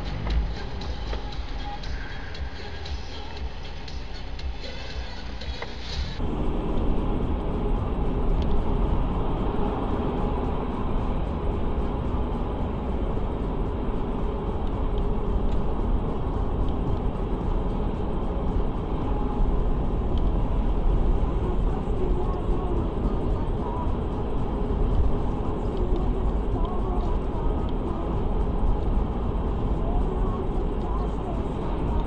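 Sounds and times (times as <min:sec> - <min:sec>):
car road and engine noise: 0:00.0 - 0:32.0.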